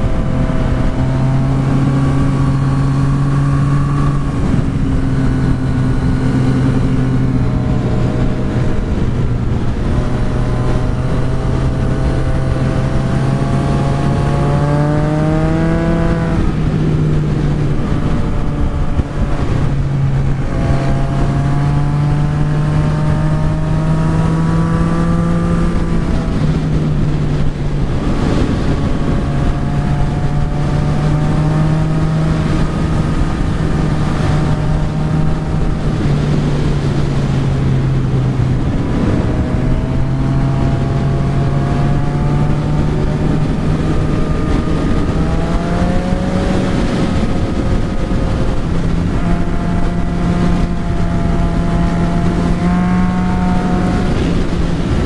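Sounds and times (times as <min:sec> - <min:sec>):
motorcycle engine: 0:00.0 - 0:55.0
wind noise: 0:00.0 - 0:55.0.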